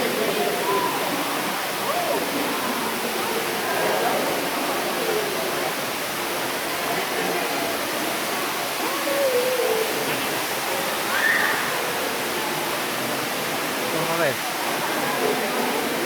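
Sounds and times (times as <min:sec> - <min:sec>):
faint voices: 0:00.0 - 0:16.0
waterfall rushing: 0:00.0 - 0:16.0.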